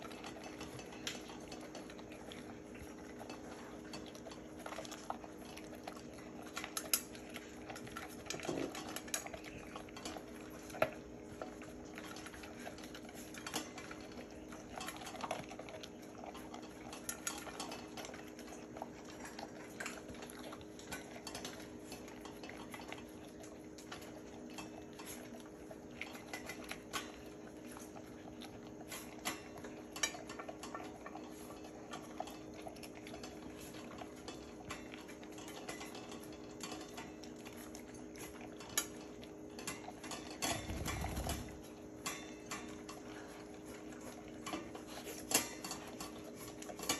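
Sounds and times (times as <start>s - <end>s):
dog eating from metal bowl: 0.0s - 46.9s.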